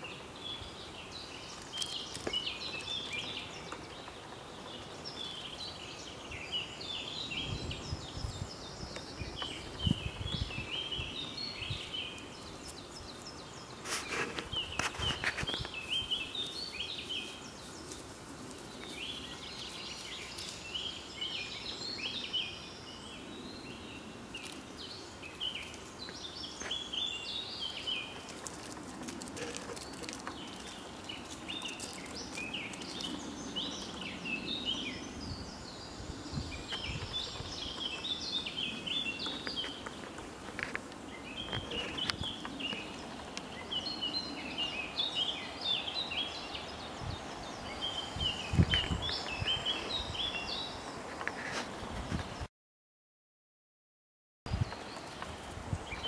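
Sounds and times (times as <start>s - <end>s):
small birds chirping and singing: 0.0s - 52.4s, 54.5s - 56.0s.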